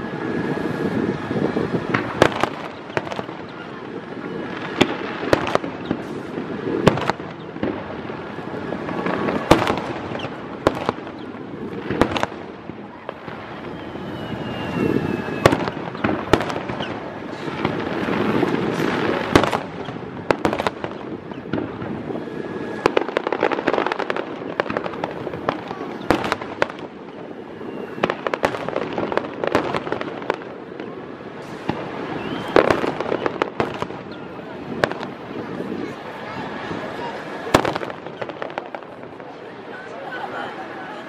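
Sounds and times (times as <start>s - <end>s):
firework whistle: 0.0s - 41.0s
fireworks bursting: 0.0s - 41.0s
rumbling crackling wash: 0.0s - 41.0s.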